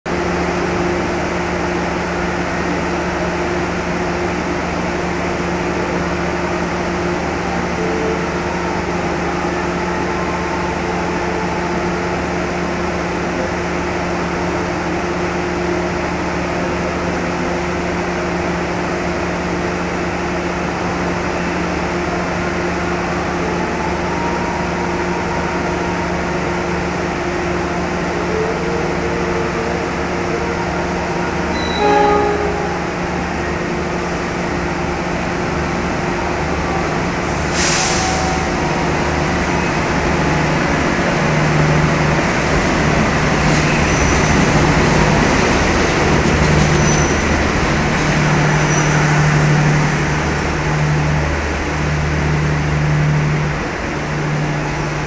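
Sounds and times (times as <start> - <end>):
diesel locomotive idling: 0.1 - 55.0.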